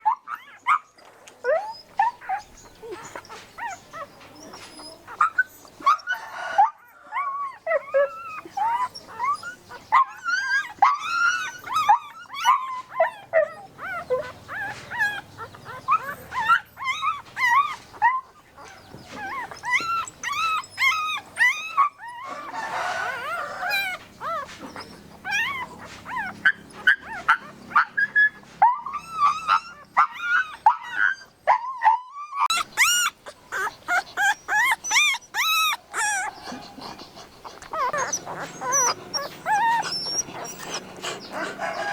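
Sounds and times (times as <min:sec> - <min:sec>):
puppies whimpering and yipping: 0:00.0 - 0:41.9.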